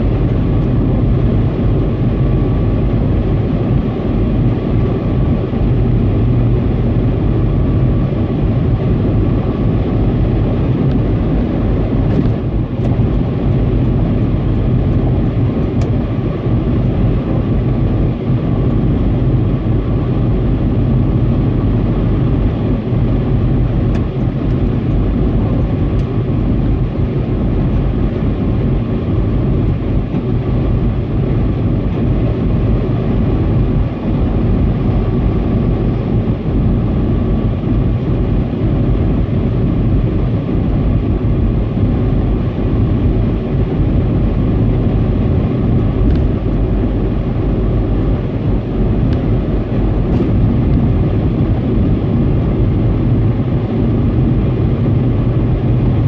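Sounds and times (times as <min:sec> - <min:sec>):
car road noise rumble: 0:00.0 - 0:56.0
faint steady whine: 0:00.0 - 0:56.0.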